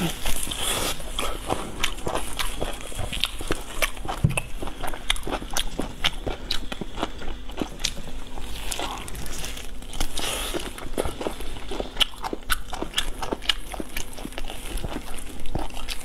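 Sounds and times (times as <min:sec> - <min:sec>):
chewing and lip-smacking: 0:00.0 - 0:16.0.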